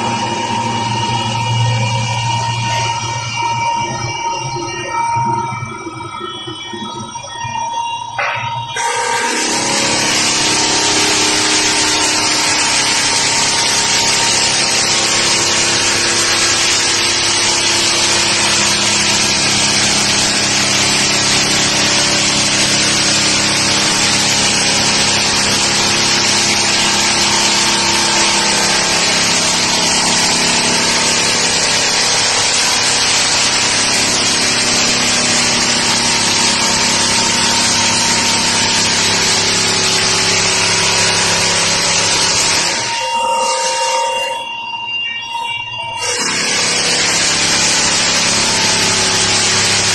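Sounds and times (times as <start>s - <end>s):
floor sander motor: 0.0s - 6.2s, 8.1s - 44.9s, 45.8s - 49.9s.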